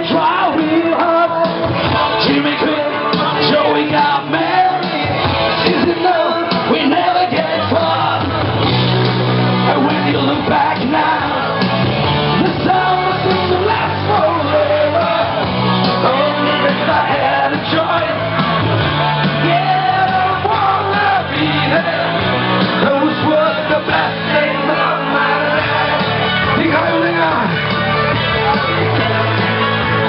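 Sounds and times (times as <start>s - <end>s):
man singing into a microphone: 0.0s - 8.6s, 9.6s - 27.6s
deep bass line: 0.0s - 30.0s
loud music: 0.0s - 30.0s.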